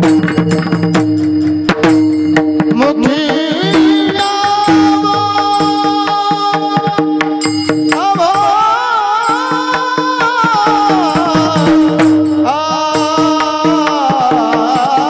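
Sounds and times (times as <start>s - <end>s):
brass hand cymbals beating: 0.0s - 15.0s
man singing devotional melody: 2.7s - 15.0s.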